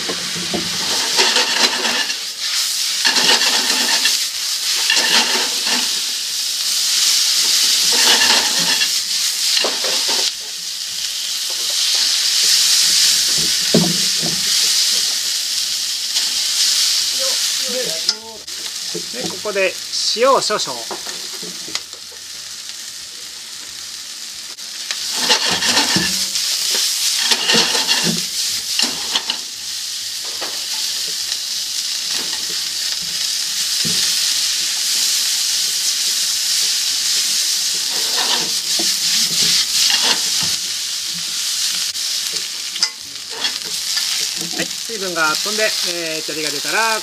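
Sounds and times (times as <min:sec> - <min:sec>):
noodles sizzling in a pan: 0:00.0 - 0:47.0.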